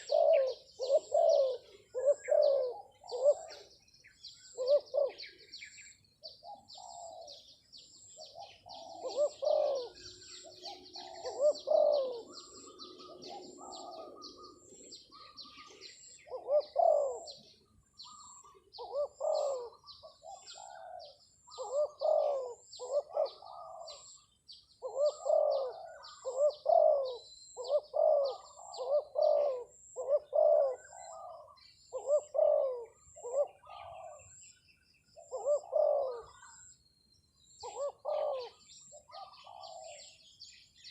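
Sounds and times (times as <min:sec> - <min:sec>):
dove cooing: 0:00.0 - 0:36.8, 0:37.4 - 0:40.9
small birds chirping: 0:00.0 - 0:40.9.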